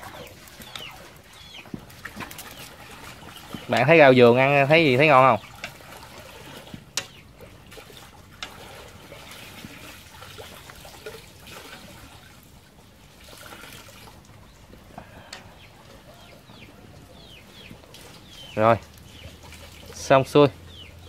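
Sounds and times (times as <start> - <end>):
water boiling in a pot: 0.0 - 21.0.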